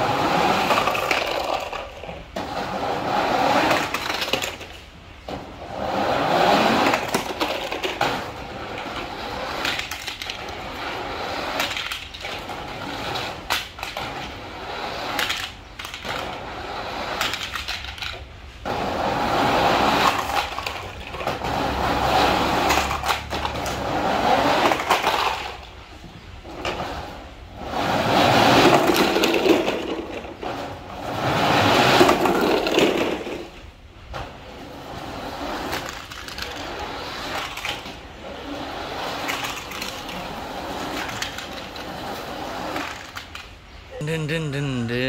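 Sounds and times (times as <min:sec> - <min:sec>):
toy trucks rattling over metal ridges: 0:00.0 - 0:34.1, 0:34.9 - 0:43.8.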